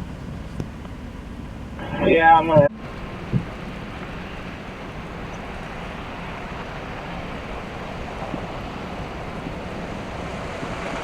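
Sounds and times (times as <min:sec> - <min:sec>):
traffic noise on slushy street: 0:00.0 - 0:11.0
wind: 0:00.0 - 0:11.0.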